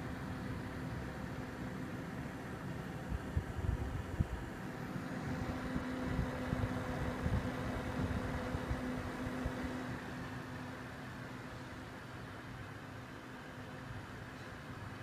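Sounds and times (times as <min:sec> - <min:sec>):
fan noise: 0:00.0 - 0:15.0.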